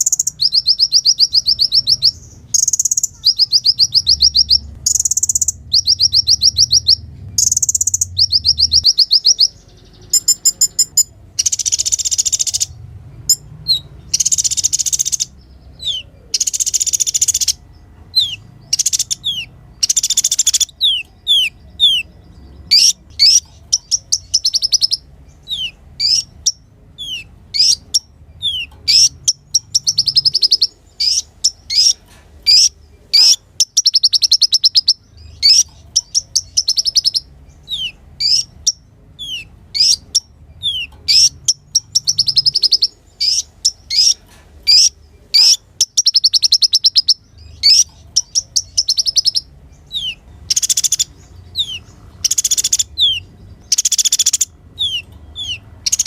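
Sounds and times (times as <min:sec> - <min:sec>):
harsh scratchy bird calls: 0:00.0 - 0:56.0
sunbird singing: 0:00.0 - 0:56.0.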